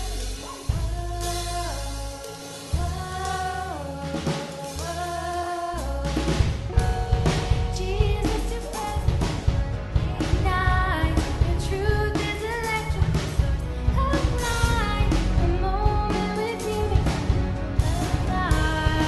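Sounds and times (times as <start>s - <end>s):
band playing worship song: 0.0s - 19.0s
drum kit: 0.0s - 19.0s
person singing: 0.0s - 19.0s.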